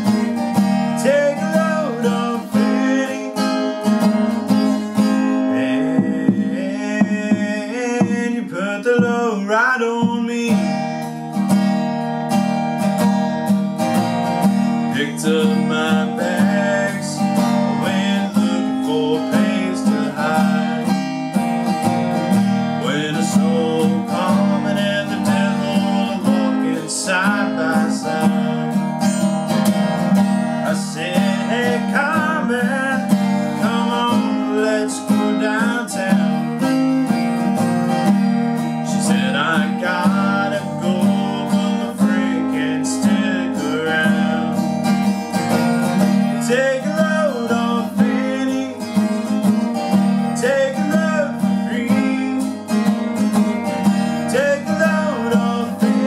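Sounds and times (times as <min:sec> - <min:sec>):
man singing: 0:00.0 - 0:11.6, 0:14.6 - 0:56.0
acoustic guitar strumming: 0:00.0 - 0:56.0.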